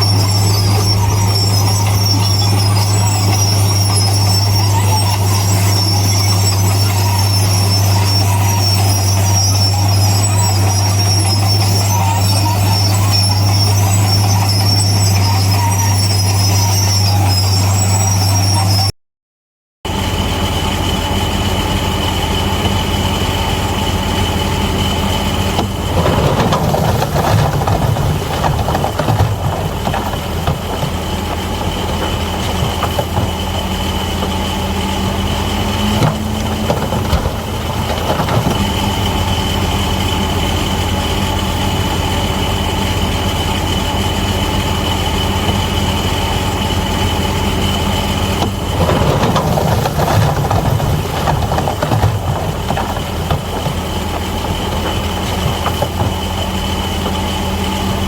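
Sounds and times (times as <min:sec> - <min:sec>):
bulldozer diesel engine: 0:00.0 - 0:18.9, 0:19.9 - 0:58.0.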